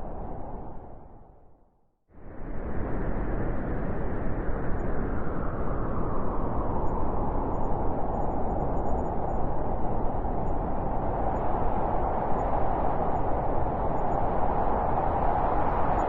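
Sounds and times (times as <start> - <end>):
strong wind blowing: 2.2 - 16.0.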